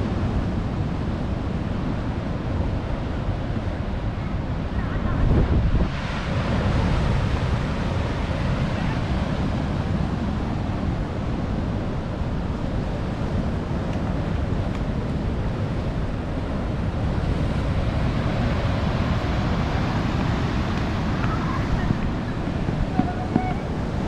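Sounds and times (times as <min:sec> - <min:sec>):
ocean waves and surf: 0:00.0 - 0:24.0
wind noise on microphone: 0:00.0 - 0:24.0.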